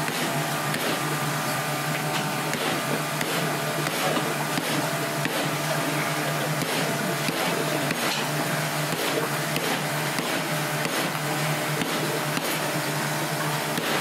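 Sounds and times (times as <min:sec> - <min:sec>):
kitchen machinery hum: 0:00.0 - 0:14.0.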